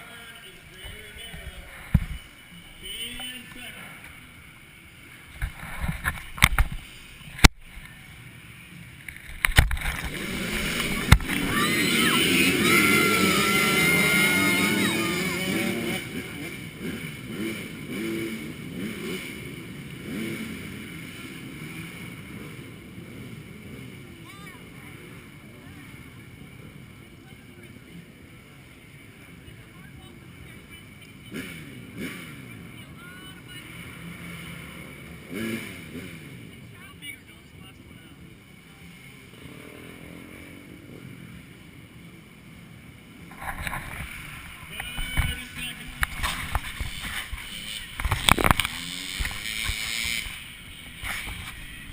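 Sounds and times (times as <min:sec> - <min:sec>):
motorcycle engines revving: 0:00.0 - 0:51.9.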